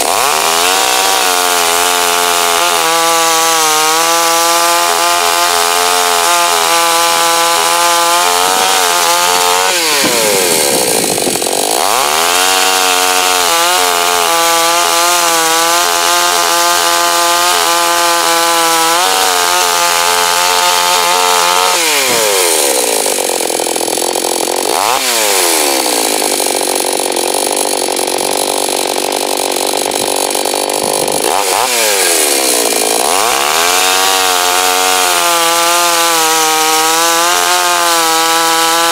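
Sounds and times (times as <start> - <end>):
chain rasping through wood: 0.0 - 38.9
chainsaw engine revving: 0.0 - 38.9.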